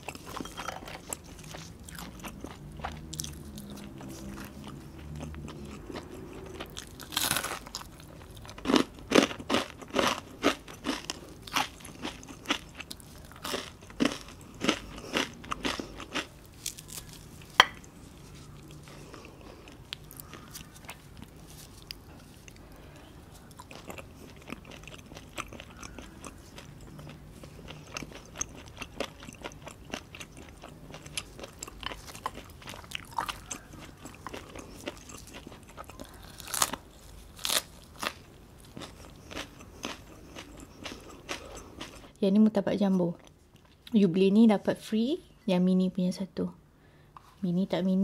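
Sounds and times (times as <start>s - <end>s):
chewing crisp food: 0.0s - 42.2s.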